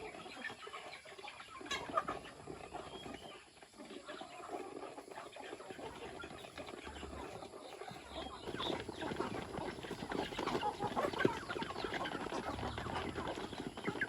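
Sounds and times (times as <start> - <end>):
chickens clucking softly: 0.0 - 14.0.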